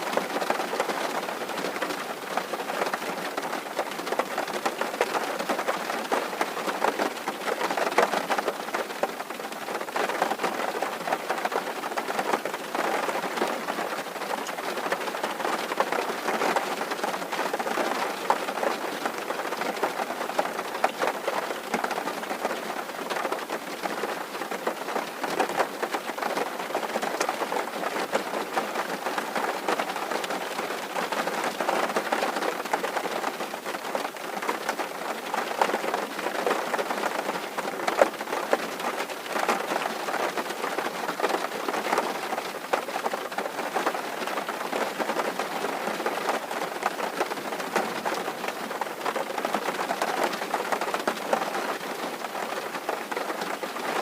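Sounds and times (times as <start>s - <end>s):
rain drumming on a tin roof: 0.0s - 54.0s.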